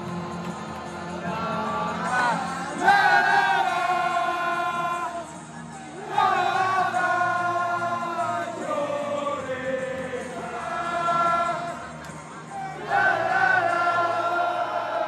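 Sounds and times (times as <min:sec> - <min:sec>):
football crowd chanting: 0:00.0 - 0:15.0.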